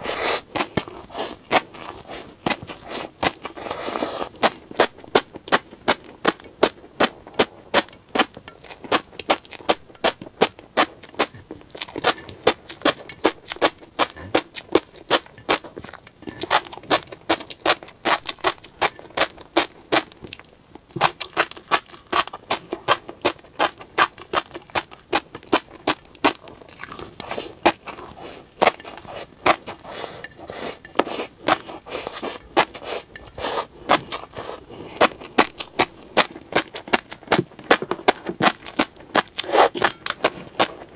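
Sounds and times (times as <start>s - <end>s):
fish roe popping while chewed: 0.3s - 40.9s.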